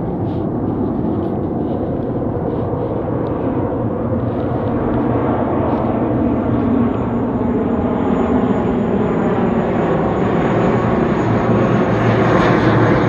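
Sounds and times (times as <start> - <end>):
jet airliner engine drone: 0.0 - 13.0.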